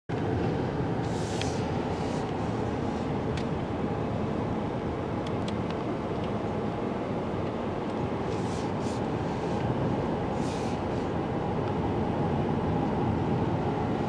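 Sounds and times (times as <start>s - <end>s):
car engine and tyre noise: 0.1s - 14.0s.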